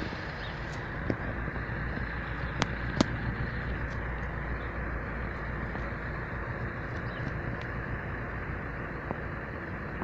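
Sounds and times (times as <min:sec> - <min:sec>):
diesel freight train rumbling: 0:00.0 - 0:10.0.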